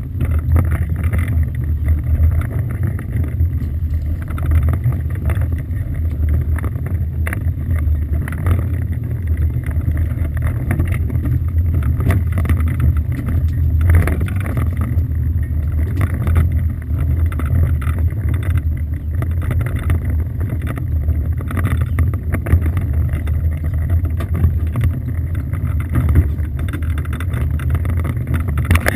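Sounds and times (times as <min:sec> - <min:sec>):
boat engine idling: 0:00.0 - 0:28.9.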